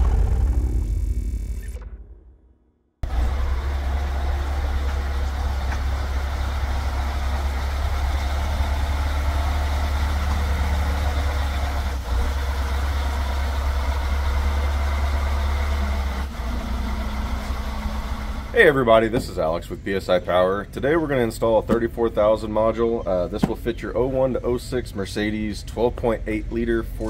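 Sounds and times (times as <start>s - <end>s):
diesel truck engine droning: 3.0s - 27.0s.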